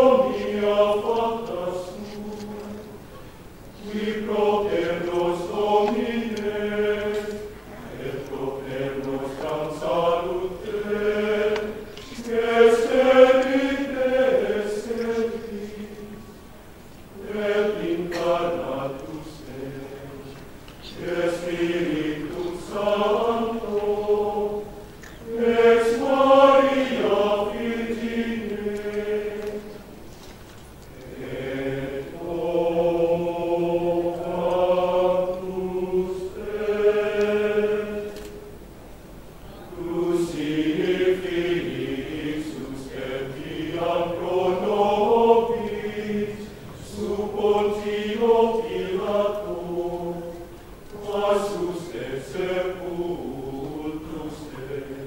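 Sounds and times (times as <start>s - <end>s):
men's choir chanting: 0.0s - 2.9s, 3.8s - 16.3s, 17.2s - 29.9s, 31.0s - 38.2s, 39.6s - 55.0s.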